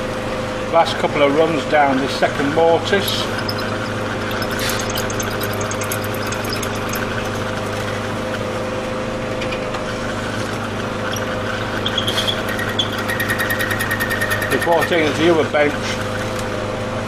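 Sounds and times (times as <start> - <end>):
mortise machine motor running: 1.2 - 16.7.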